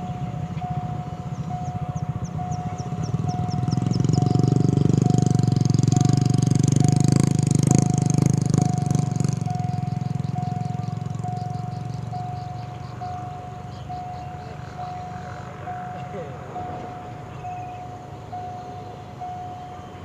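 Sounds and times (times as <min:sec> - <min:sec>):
level crossing alarm beeping: 0:00.0 - 0:20.0
locomotive engine rumble: 0:00.0 - 0:20.0
wheels clacking over crossing: 0:00.0 - 0:20.0.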